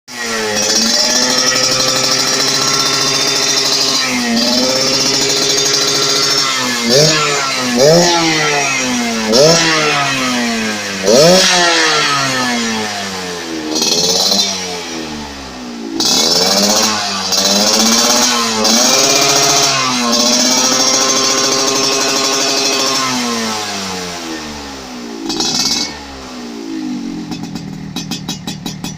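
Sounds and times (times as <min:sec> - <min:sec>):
motorcycle engine revving: 0:00.1 - 0:28.9.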